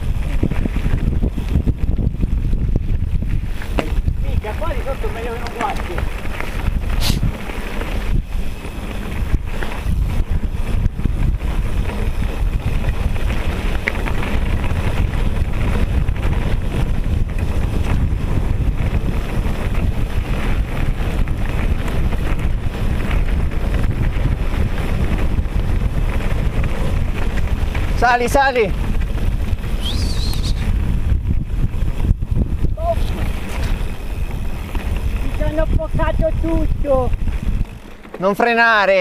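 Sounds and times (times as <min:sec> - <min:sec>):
wind buffeting microphone: 0:00.0 - 0:39.0
bike knocking: 0:00.3 - 0:29.8, 0:31.3 - 0:38.6
tyres rolling over gravel: 0:03.2 - 0:31.0, 0:32.8 - 0:39.0.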